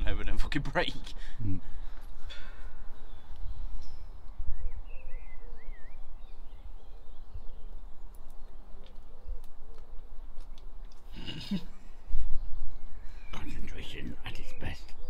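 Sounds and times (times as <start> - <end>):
wind buffeting microphone: 1.5 - 11.1, 11.7 - 15.0.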